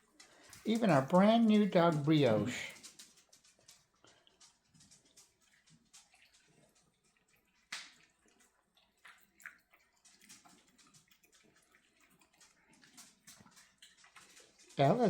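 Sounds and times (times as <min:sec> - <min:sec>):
dogs eating from bowls: 0:00.0 - 0:15.0.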